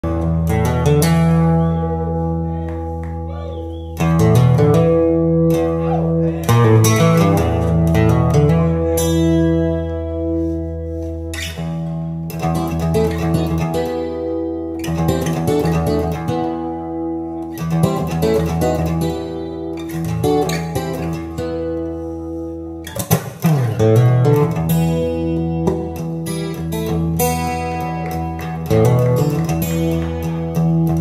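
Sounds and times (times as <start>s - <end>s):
bass guitar: 0.0s - 31.0s
instrumental guitar music: 0.0s - 31.0s.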